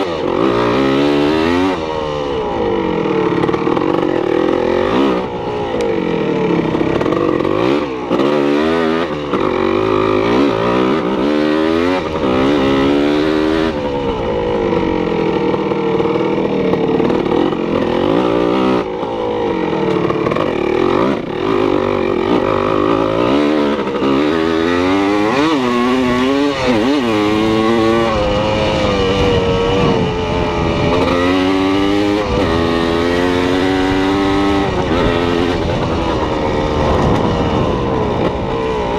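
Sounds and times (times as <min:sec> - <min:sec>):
motor engines revving: 0:00.0 - 0:38.9.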